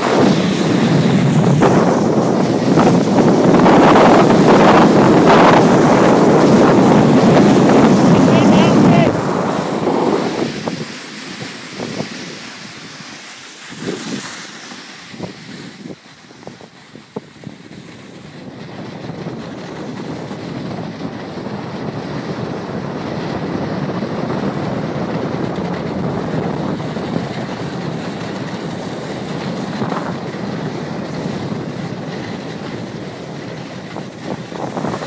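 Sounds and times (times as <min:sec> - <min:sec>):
snowboard sliding over snow: 0:00.0 - 0:35.0
wind rushing over microphone: 0:00.0 - 0:35.0.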